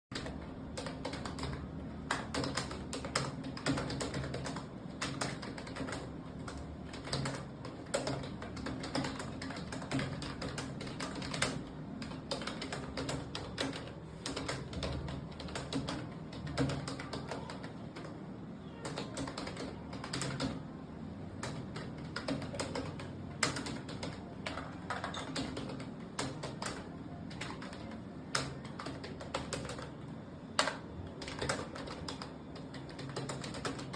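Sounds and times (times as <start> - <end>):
keyboard typing: 0.1 - 33.9.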